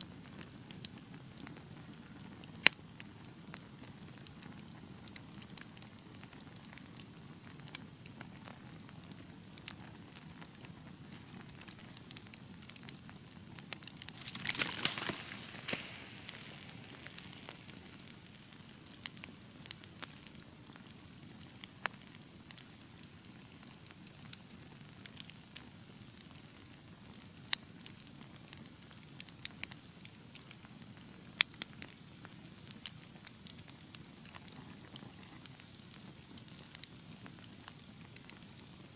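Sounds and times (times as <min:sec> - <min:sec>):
low steady fire rumble: 0:00.0 - 0:38.9
wood fire crackling and popping: 0:00.0 - 0:38.9.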